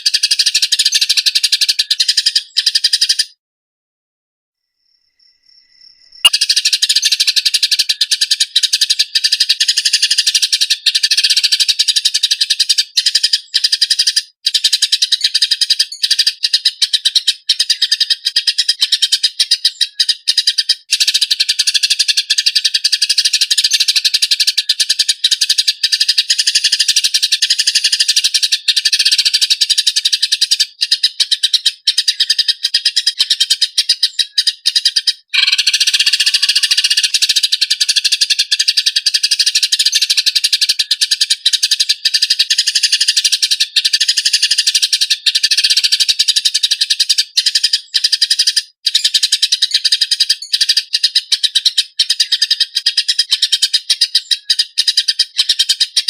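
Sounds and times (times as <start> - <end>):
sparrows chirping harshly: 0.0 - 3.4, 5.2 - 56.0.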